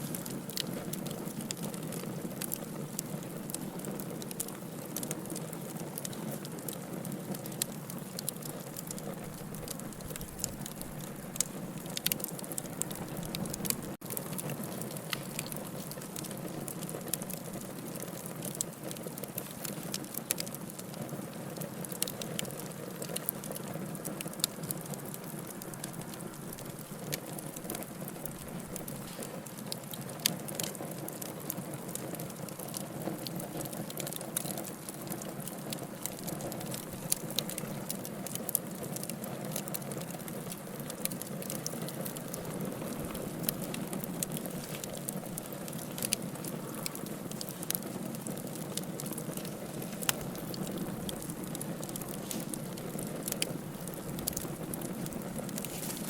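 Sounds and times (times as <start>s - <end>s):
low rush of flames: 0.0s - 56.0s
wood fire crackling and popping: 0.0s - 56.0s.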